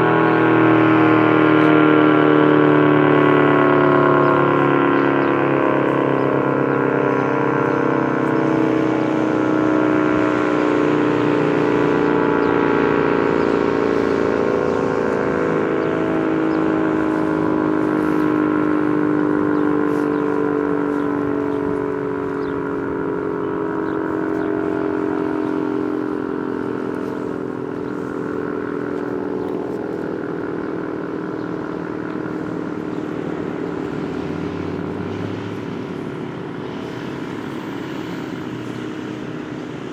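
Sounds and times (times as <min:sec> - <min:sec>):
tornado siren winding down: 0:00.0 - 0:39.9.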